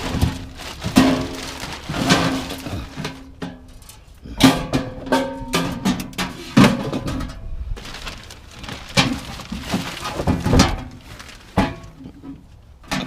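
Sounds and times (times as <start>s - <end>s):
metal boxes clanking: 0.0s - 13.0s.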